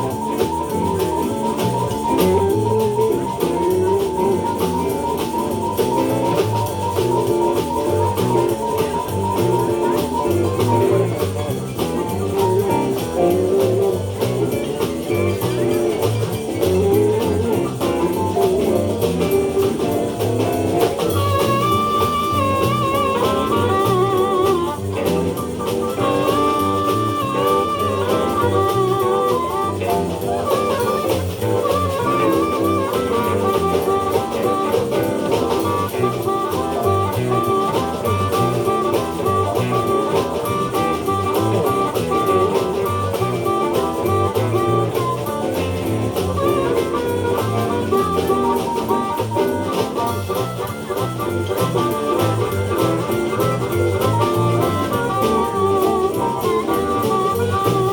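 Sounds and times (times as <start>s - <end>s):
blues band playing: 0.0s - 57.9s
warbling high lead melody: 0.0s - 57.9s.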